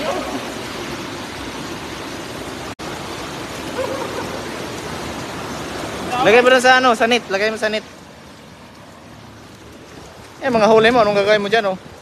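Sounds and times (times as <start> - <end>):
water rushing through a channel: 0.0 - 12.0.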